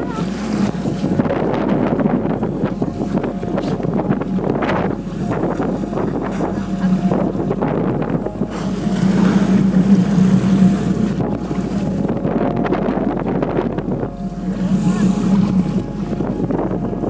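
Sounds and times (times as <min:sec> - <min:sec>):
motorboat engine humming: 0:00.0 - 0:17.0
wind buffeting microphone: 0:00.0 - 0:17.0.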